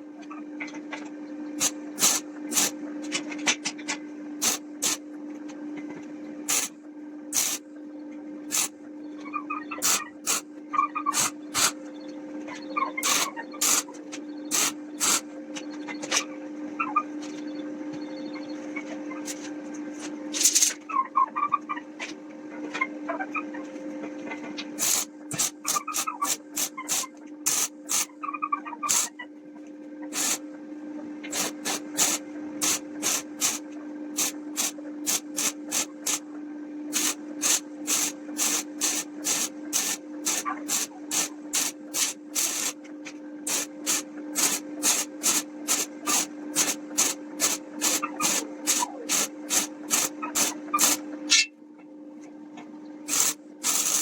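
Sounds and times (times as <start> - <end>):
steady hum: 1.2 - 3.2, 4.0 - 20.7, 24.6 - 54.0.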